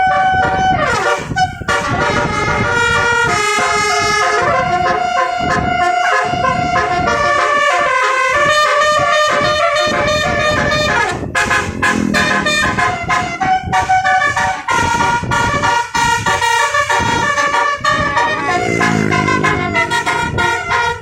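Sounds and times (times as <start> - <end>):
multi-tone bus horn melody: 0.0 - 21.0.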